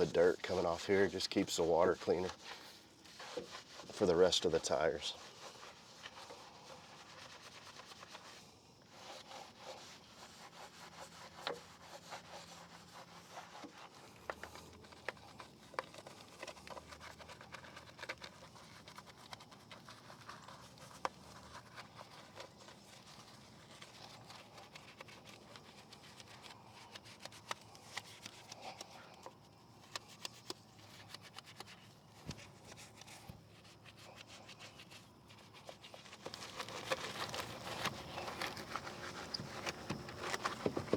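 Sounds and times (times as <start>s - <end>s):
brush scrubbing a tire: 0.0s - 40.9s.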